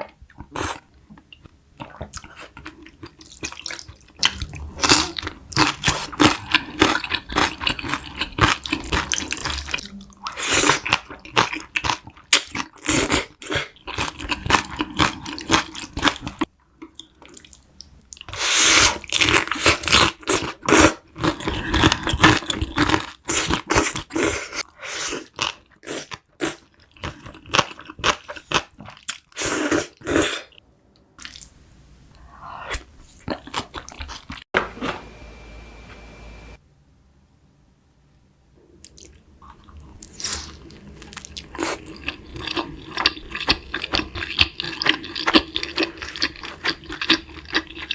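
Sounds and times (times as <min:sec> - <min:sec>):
person chewing crunchy food: 0:01.4 - 0:30.6, 0:32.6 - 0:34.5, 0:38.8 - 0:47.9.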